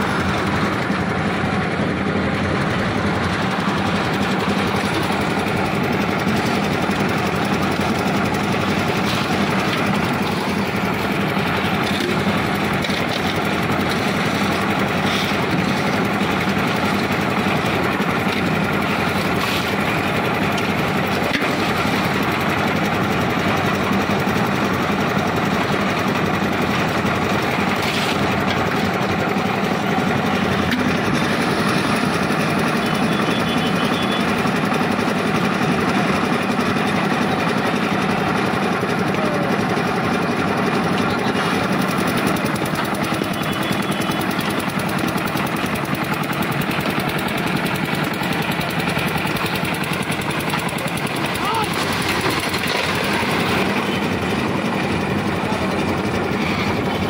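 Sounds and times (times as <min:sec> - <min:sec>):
concrete mixer rattling drone: 0:00.0 - 0:57.0.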